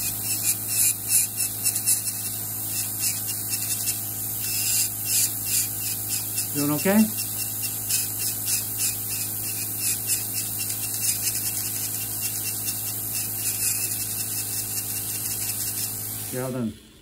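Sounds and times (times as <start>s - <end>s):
electric nail drill grinding: 0.0s - 16.3s
water spray hiss: 0.0s - 16.7s.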